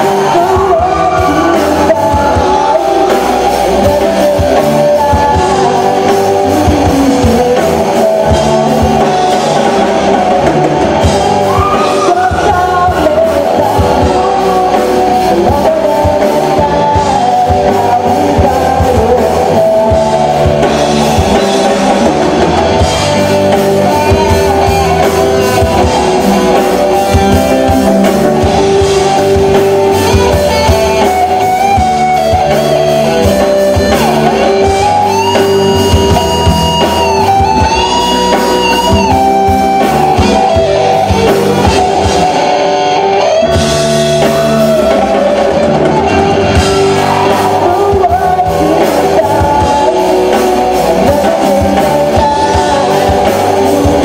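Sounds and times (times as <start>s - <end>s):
person singing: 0.0s - 54.0s
rock band playing live: 0.0s - 54.0s.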